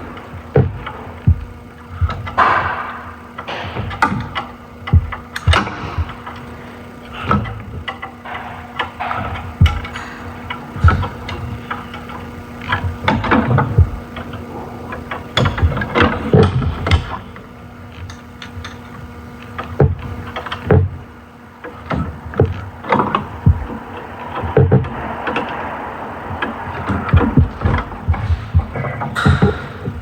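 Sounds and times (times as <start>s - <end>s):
faint steady hum: 0.0s - 30.0s
hand tools and metal parts knocking: 0.0s - 30.0s.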